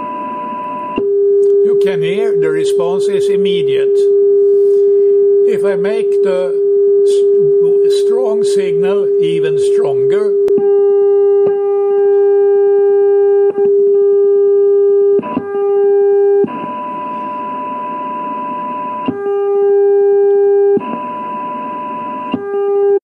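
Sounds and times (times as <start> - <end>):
steady low test tone: 0.0 - 22.1.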